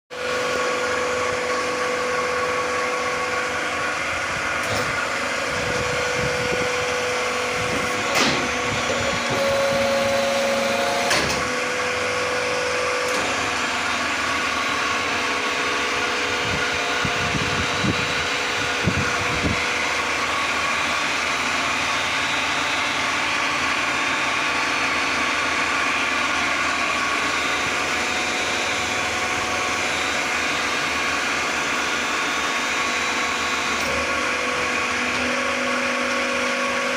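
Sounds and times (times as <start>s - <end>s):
machine mechanical hum: 0.2s - 36.9s.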